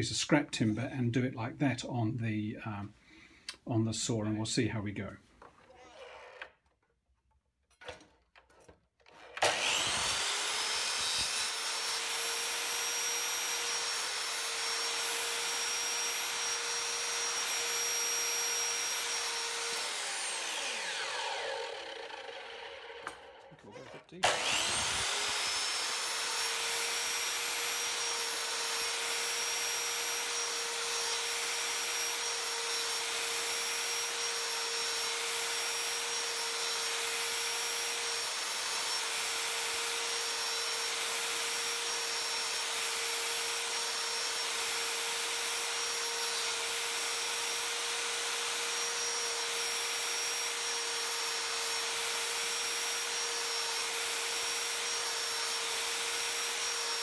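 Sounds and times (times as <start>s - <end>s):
mitre saw whining: 5.5s - 6.7s, 9.0s - 57.0s
saw blade cutting hardwood: 9.1s - 57.0s.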